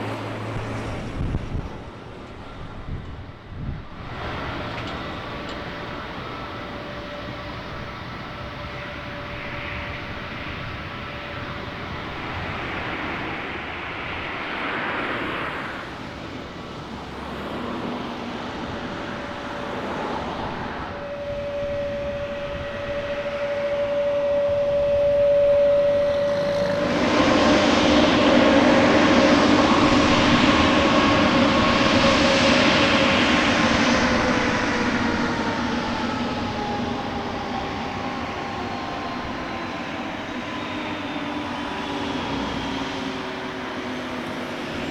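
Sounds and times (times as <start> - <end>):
jet engines whining: 0.0 - 44.9.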